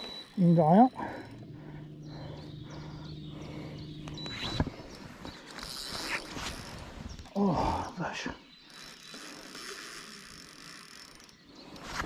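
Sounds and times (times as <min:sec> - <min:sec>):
fishing reel drag buzzing: 0:00.0 - 0:07.4, 0:08.5 - 0:12.0.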